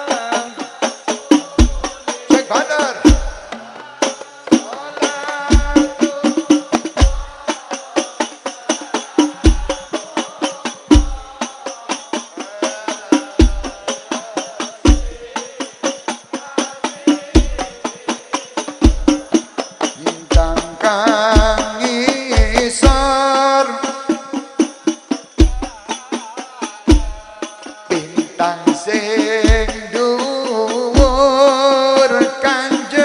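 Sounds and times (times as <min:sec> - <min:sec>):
frame drums and tambourine: 0:00.0 - 0:33.0.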